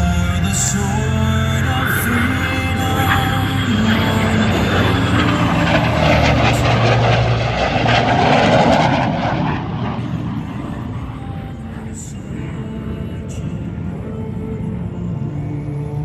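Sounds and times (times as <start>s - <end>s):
jet passing overhead: 0.0s - 16.0s.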